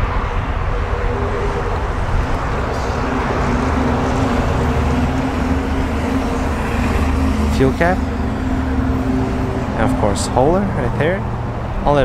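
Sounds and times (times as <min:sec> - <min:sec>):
low engine hum: 0:00.0 - 0:12.0
outdoor noise: 0:00.0 - 0:12.0.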